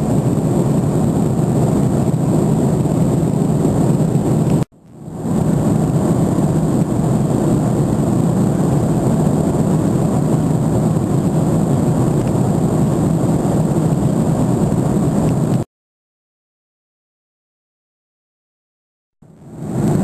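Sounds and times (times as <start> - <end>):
airliner cabin engine rush: 0.0 - 15.7, 19.2 - 20.0.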